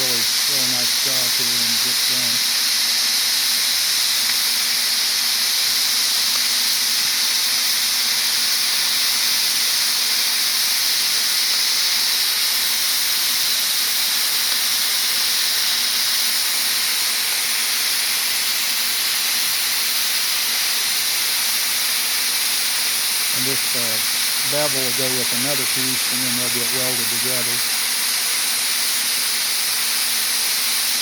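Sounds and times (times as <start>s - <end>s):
cutting torch hissing: 0.0s - 31.0s.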